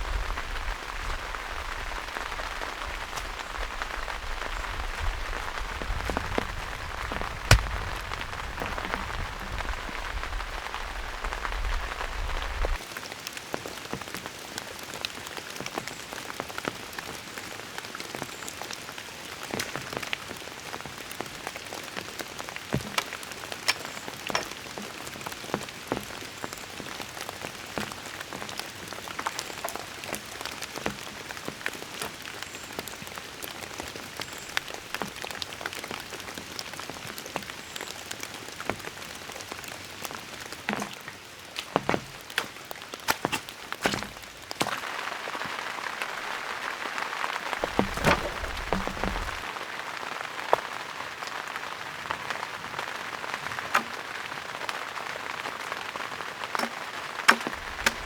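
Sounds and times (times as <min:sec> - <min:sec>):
rain falling: 0:00.0 - 0:58.0
raindrops tapping: 0:00.1 - 0:46.5, 0:47.4 - 0:49.5, 0:52.9 - 0:58.0.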